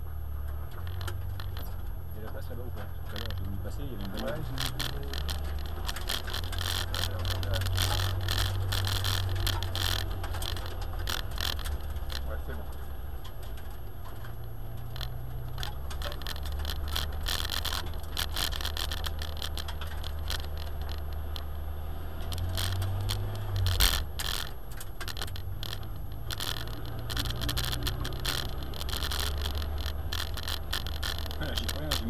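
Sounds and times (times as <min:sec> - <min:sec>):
car engine droning: 0:00.0 - 0:32.0
clicking and rattling in car cabin: 0:00.0 - 0:32.0.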